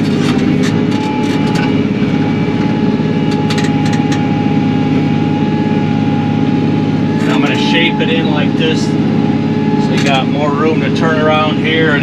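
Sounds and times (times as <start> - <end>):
thin steady whine: 0.0 - 12.0
tractor diesel engine running: 0.0 - 12.0.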